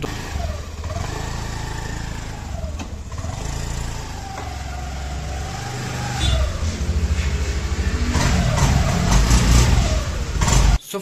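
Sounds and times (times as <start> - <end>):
vehicle engine revving: 0.0 - 10.8.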